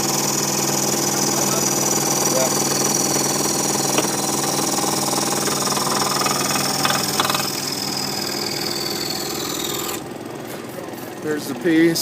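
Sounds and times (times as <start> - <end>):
scroll saw cutting wood: 0.0 - 10.1.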